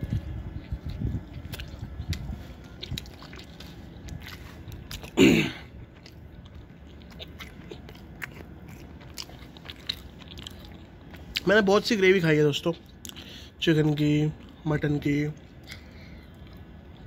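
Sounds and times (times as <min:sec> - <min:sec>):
close-up chewing: 0:00.0 - 0:11.9, 0:14.3 - 0:14.6, 0:15.4 - 0:17.0.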